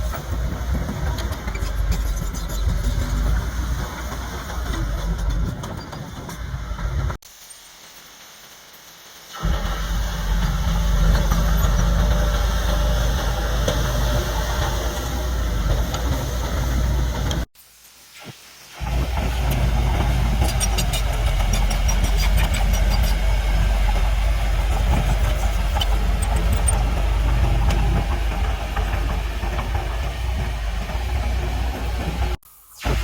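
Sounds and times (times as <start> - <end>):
heavy machinery diesel engine rumble: 0.0 - 7.2, 9.3 - 17.5, 18.8 - 33.0.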